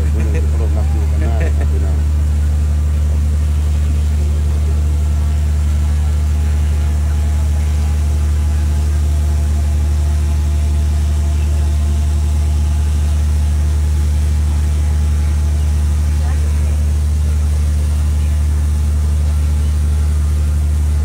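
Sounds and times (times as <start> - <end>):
faint voices: 0.0 - 2.1, 2.9 - 21.0
motor humming: 0.0 - 21.0.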